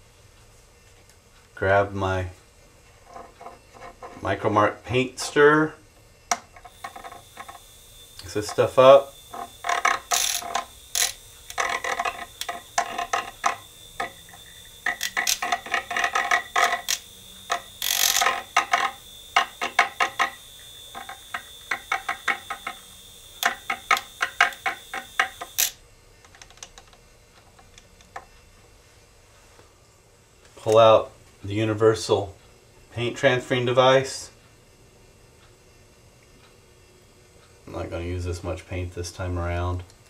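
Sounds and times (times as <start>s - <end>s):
faint motor whine: 0.0s - 40.0s.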